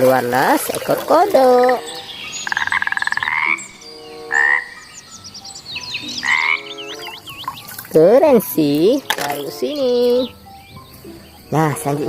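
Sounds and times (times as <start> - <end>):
frog croaking: 0.0 - 12.0
faint high chirps: 1.5 - 12.0.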